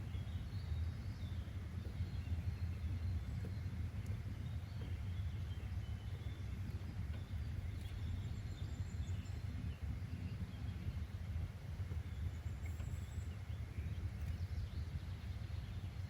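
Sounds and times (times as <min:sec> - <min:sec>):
faint bird chirps: 0:00.0 - 0:16.0
low even rumble: 0:00.0 - 0:16.0.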